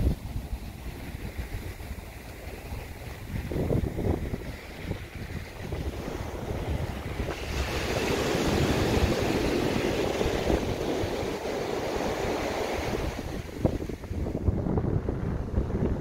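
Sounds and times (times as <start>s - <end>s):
surf washing onto beach: 0.0s - 16.0s
wind on microphone: 0.0s - 16.0s.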